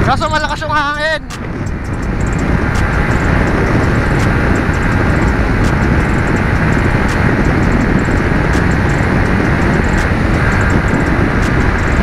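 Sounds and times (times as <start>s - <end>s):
motorcycle road noise: 0.0s - 12.0s
wind rush on microphone: 0.0s - 12.0s.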